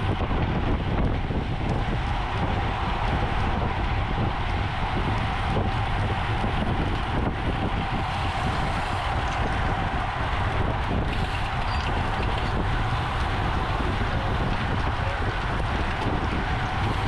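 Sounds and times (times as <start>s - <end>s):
constant low rumble: 0.0s - 17.0s
wind rushing over microphone: 0.0s - 17.0s.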